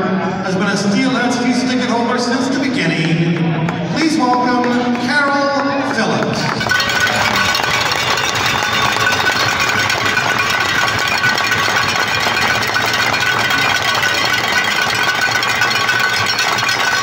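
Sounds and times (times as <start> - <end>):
crowd applauding: 3.3 - 17.0.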